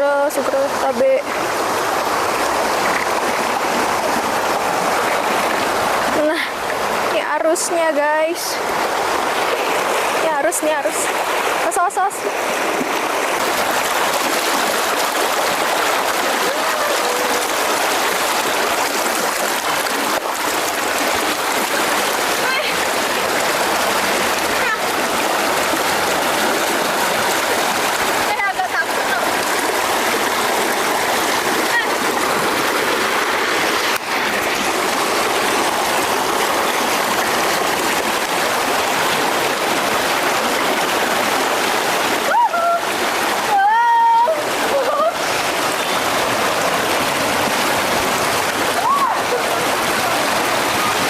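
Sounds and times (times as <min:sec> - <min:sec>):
river rushing over rocks: 0:00.0 - 0:51.0.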